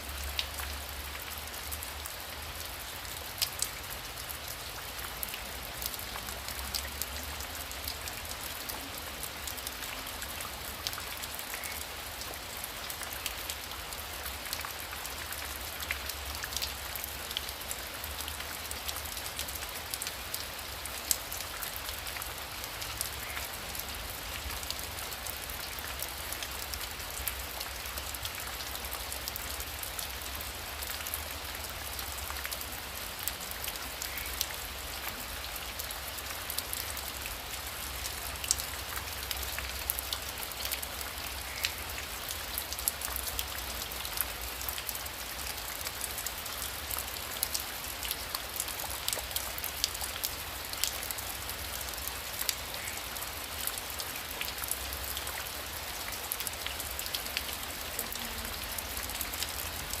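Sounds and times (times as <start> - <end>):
heavy rain: 0.0 - 60.0
raindrops ticking on a surface: 0.0 - 60.0.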